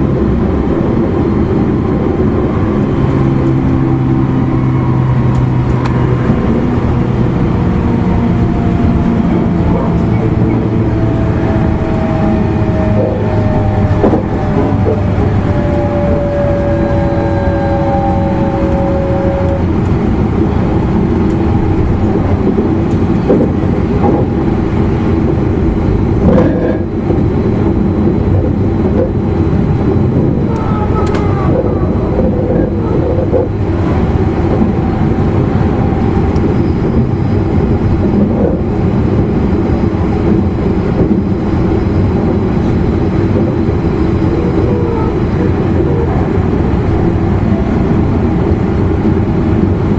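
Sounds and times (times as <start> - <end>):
traction motor hum: 0.0 - 49.9
train wheels rumbling on rail: 0.0 - 49.9.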